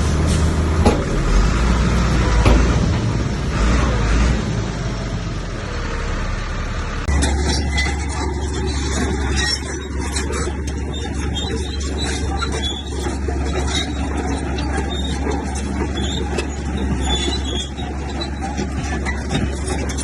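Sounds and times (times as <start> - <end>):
heavy diesel machinery rumbling: 0.0 - 20.0.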